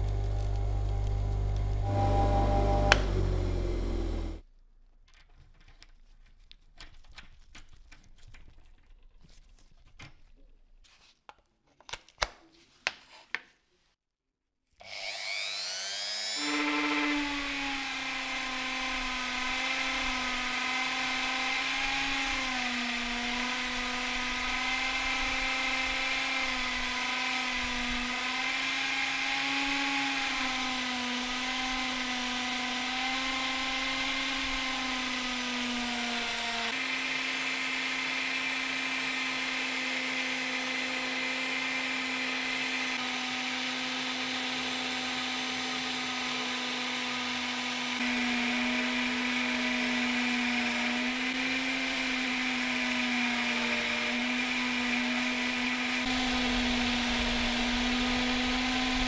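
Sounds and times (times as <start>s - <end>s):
rotary tool motor whine: 0.0s - 4.4s, 14.8s - 47.4s, 48.0s - 59.0s.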